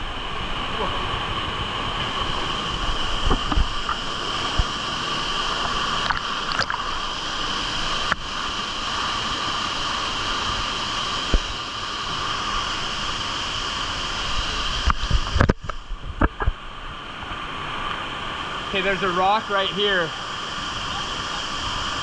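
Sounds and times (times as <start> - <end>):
waterfall pouring into a pool: 0.0 - 22.0.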